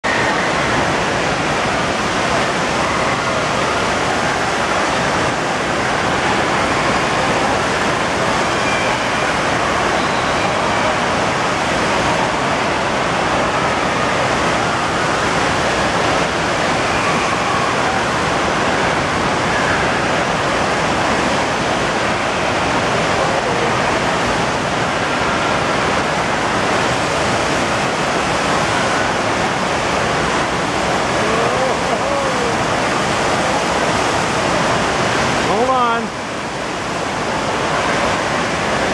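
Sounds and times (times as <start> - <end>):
water rushing steadily: 0.0 - 38.9.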